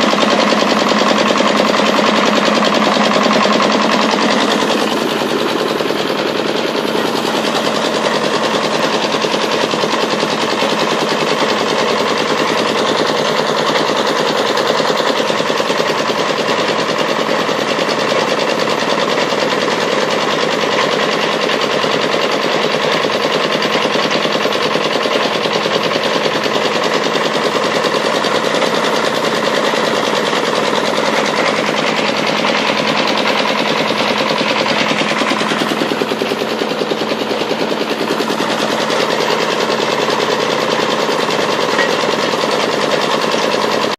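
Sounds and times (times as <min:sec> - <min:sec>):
drilling rig rattling: 0:00.0 - 0:43.9.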